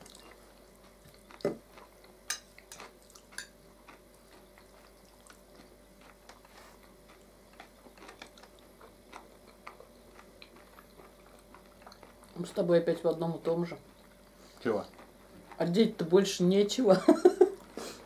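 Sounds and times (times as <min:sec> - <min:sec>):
soft chewing: 0:00.0 - 0:16.8.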